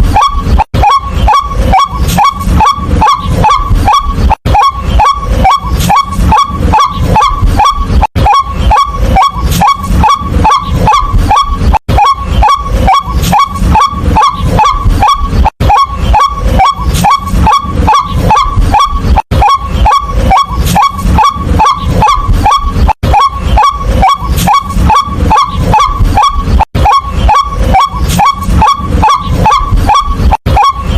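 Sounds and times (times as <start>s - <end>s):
waterhen calling: 0.0s - 30.9s.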